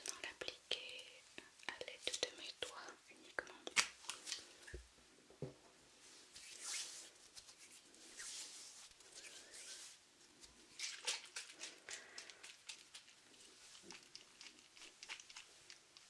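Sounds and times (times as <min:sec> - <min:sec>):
soft rustling: 0:01.3 - 0:16.0.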